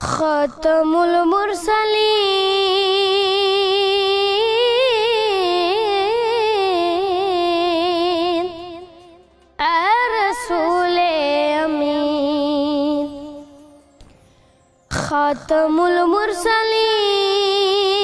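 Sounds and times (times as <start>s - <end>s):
boy singing unaccompanied: 0.0s - 9.0s, 9.6s - 13.4s, 14.9s - 18.0s.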